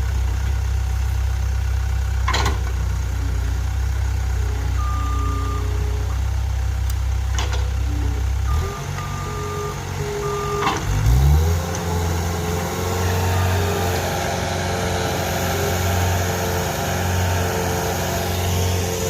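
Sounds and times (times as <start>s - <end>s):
digging machine engine running: 0.0s - 19.0s.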